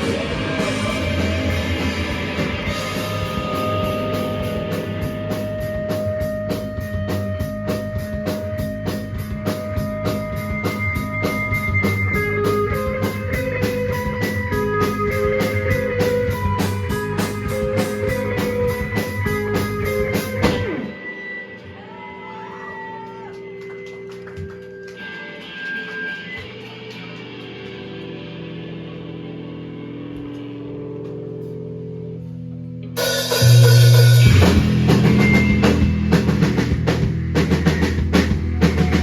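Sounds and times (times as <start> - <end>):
electric guitar ringing: 0.0 - 22.5, 23.4 - 39.0
rock band playing: 0.0 - 39.0.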